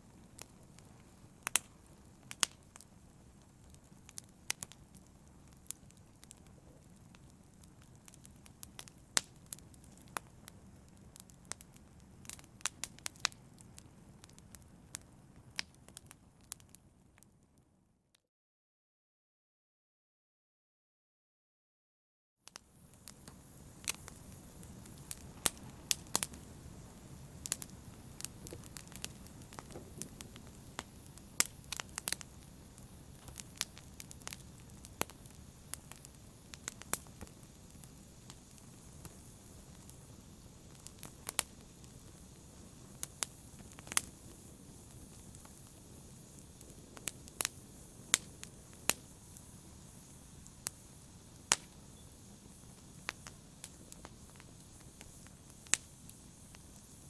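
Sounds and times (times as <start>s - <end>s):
wood fire crackling: 0.0s - 17.6s, 22.5s - 57.0s.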